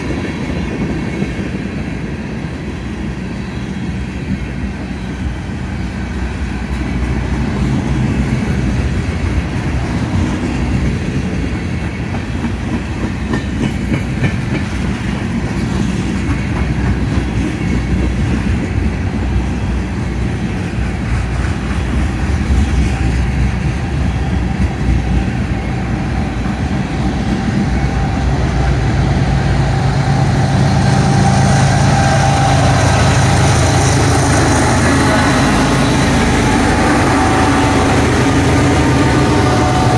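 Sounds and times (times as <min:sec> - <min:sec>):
diesel locomotive drone: 0:00.0 - 0:39.9
train wheels clacking on rails: 0:00.0 - 0:39.9.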